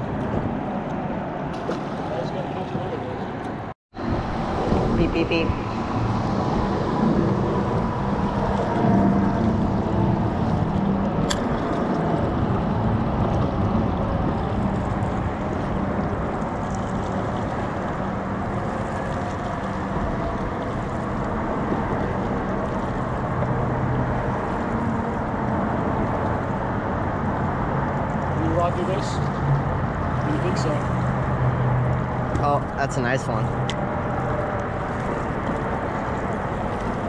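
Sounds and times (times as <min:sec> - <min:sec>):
faint engine hum: 0:00.0 - 0:37.0
wind and water rumble: 0:00.0 - 0:37.0.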